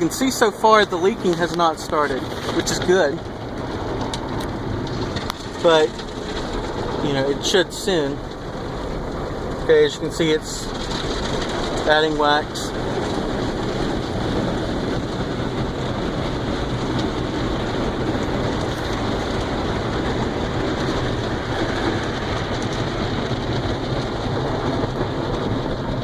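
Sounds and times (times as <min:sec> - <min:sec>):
car wash machinery: 0:00.0 - 0:26.0.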